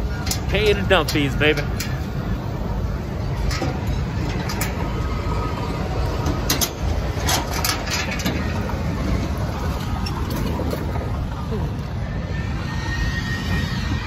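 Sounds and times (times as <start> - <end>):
heavy engines rumbling: 0.0 - 14.0
wind on the microphone: 0.0 - 14.0.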